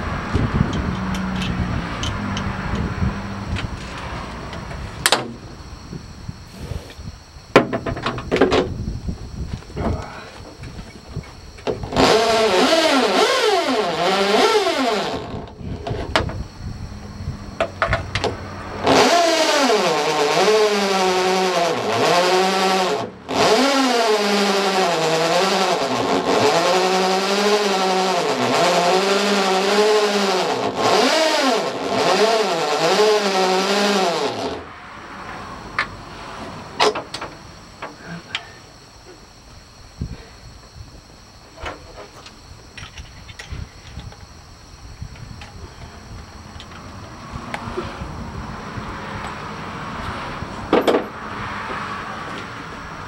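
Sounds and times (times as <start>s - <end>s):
electric drill whining through steel: 0.0s - 53.0s.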